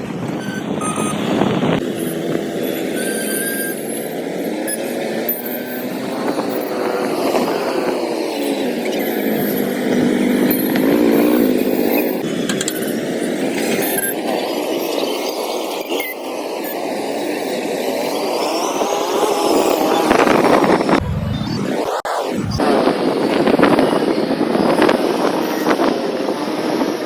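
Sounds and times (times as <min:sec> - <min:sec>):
wind and road noise: 0:00.0 - 0:27.0.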